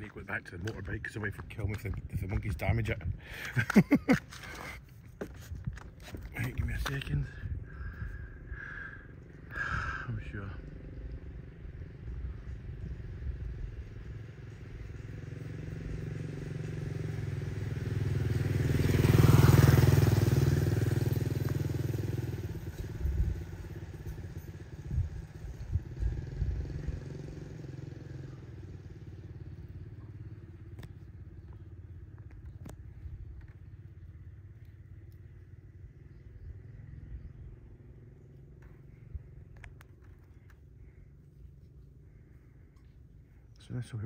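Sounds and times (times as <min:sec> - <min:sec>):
motor vehicle passing: 0:00.0 - 0:44.0.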